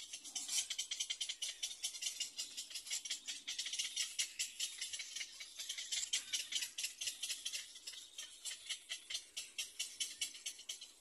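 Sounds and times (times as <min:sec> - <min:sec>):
egret chicks rattling chatter: 0:00.0 - 0:11.0.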